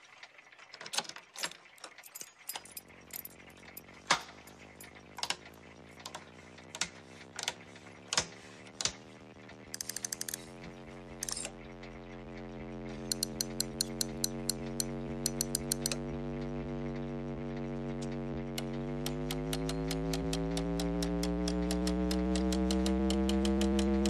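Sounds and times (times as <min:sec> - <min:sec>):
steady low hum: 0:02.5 - 0:24.0
switches clicking: 0:02.5 - 0:24.0
rapid ticks: 0:02.6 - 0:24.0.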